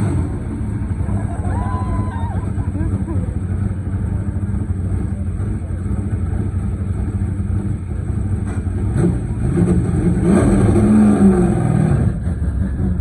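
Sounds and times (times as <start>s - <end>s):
car engine revving: 0.0s - 1.6s, 2.3s - 13.0s.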